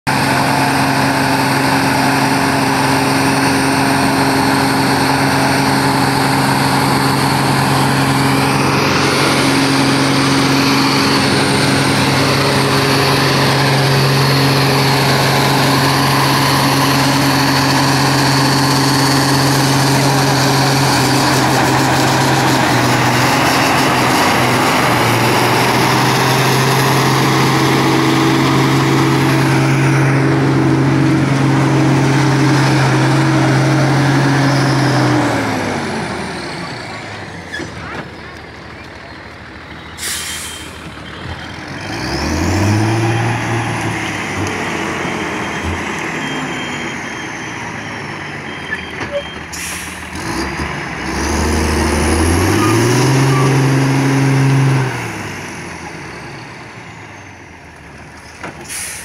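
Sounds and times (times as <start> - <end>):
truck engine droning under load: 0.1 - 59.0.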